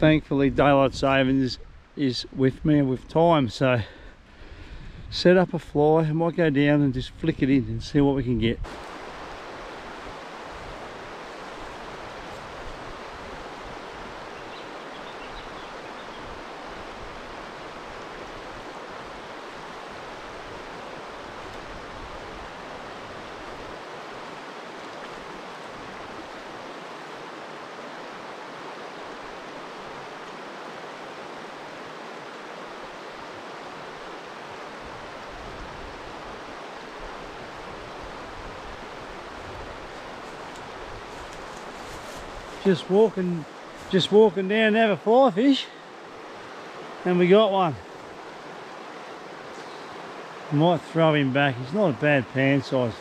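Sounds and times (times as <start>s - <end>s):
creek water rushing over rapids: 8.6s - 53.0s.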